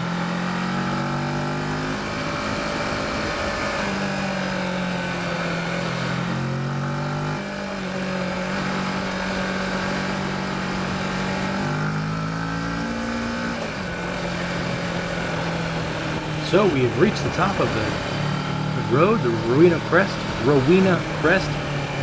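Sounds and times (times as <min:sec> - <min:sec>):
motorcycle engine pulling uphill: 0:00.0 - 0:22.0.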